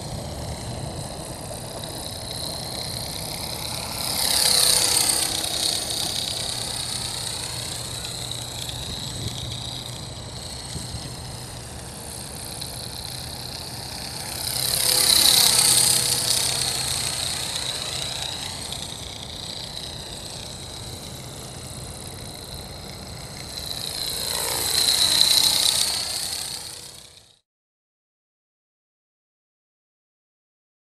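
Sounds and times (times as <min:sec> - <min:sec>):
model helicopter whine: 0:00.0 - 0:27.4.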